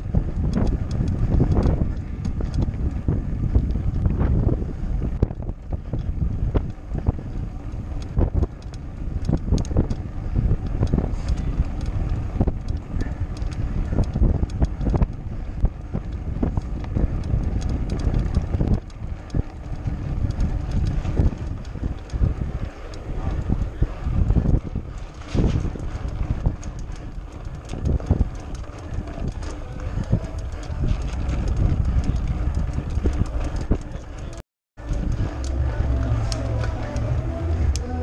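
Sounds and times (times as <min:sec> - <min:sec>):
bike rattling over cobblestones: 0:00.0 - 0:38.0
wind buffeting microphone: 0:00.0 - 0:38.0.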